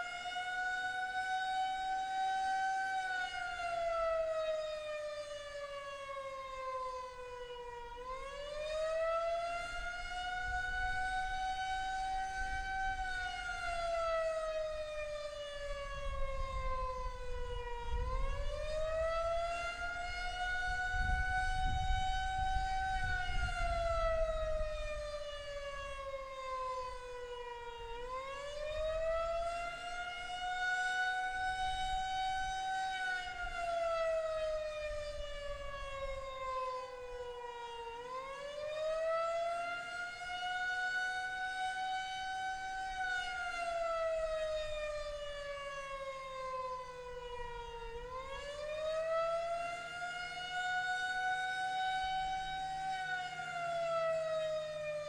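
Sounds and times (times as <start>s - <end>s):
warning siren rising and falling: 0.0s - 55.0s.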